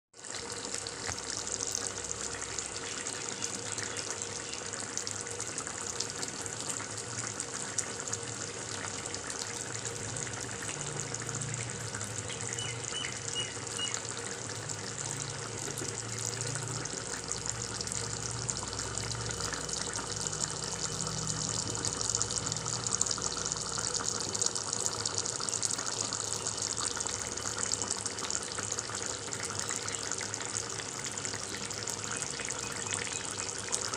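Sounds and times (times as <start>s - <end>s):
curry bubbling in a wok: 0.2s - 33.9s.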